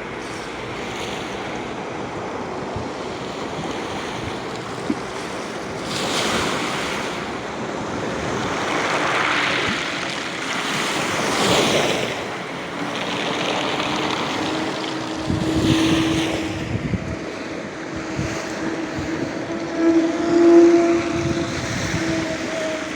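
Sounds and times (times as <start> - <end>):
engine hum: 0.0 - 22.9
surf breaking on shore: 0.0 - 22.9
wind on microphone: 0.0 - 22.9.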